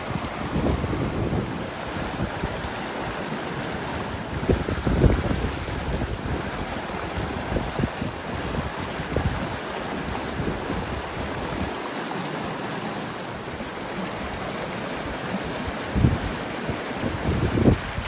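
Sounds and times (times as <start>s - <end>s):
wind buffeting microphone: 0.0s - 11.8s, 13.4s - 18.0s
river water rushing: 0.0s - 18.0s.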